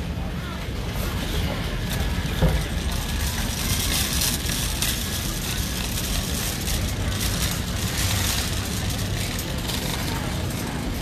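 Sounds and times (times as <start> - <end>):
busy store hubbub: 0.0 - 11.0
shopping cart rolling on concrete: 0.2 - 11.0
cart rattles: 1.8 - 11.0.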